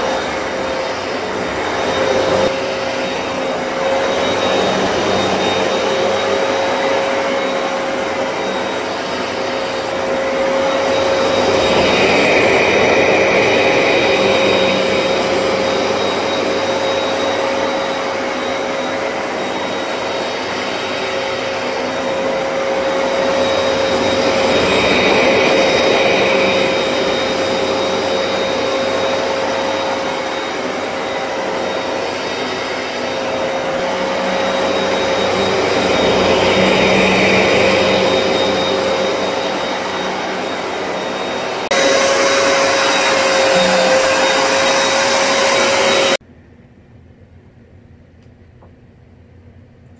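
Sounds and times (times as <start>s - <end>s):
carpet cleaner suction motor: 0.0s - 46.2s.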